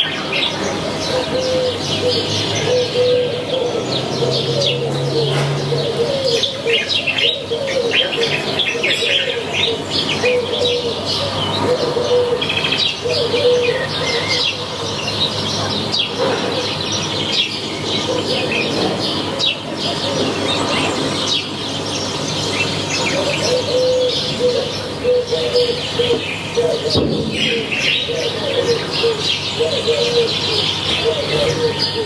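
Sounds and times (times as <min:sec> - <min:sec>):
dove cooing: 0:00.0 - 0:21.4, 0:22.0 - 0:32.0
small birds chirping and singing: 0:00.0 - 0:32.0.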